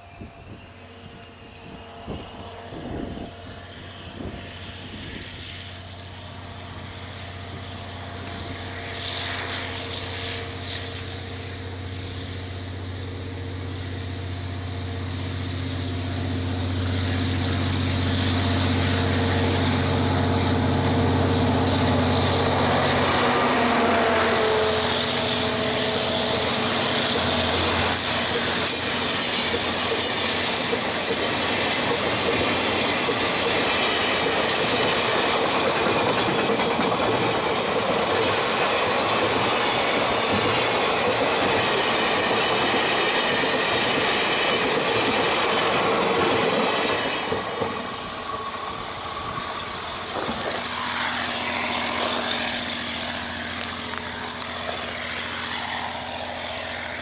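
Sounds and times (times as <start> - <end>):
diesel locomotive engine drone: 0.0 - 57.0
train wheels squealing: 0.0 - 57.0
freight cars rumbling by: 2.0 - 57.0.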